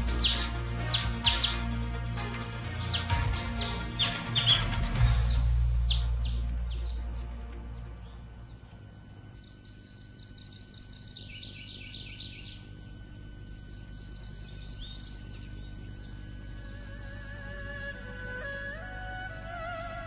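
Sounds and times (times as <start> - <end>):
low steady background rumble: 0.0 - 20.0
small birds chirping: 0.0 - 20.0.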